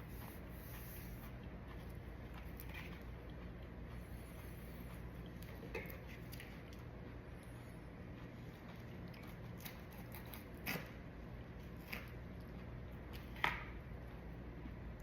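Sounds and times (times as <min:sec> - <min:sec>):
person chewing crunchy pepper: 0:00.0 - 0:13.3
low steady hum: 0:00.0 - 0:15.0.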